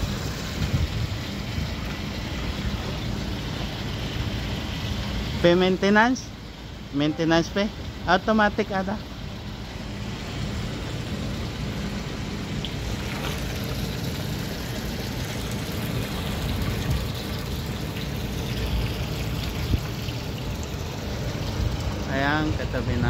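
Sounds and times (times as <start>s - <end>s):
water gushing into steel tank: 0.0s - 23.0s.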